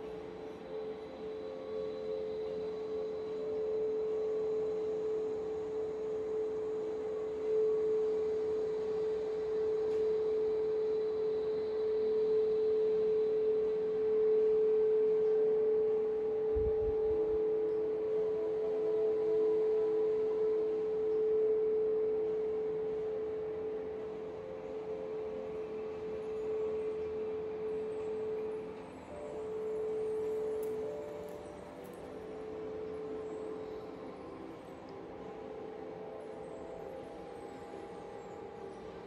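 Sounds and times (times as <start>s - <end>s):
sustained meditation drone tone: 0.0s - 39.0s.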